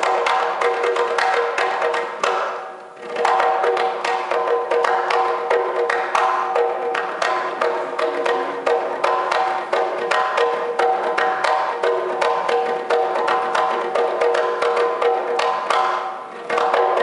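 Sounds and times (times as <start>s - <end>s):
pot drum played by hand: 0.0s - 17.0s.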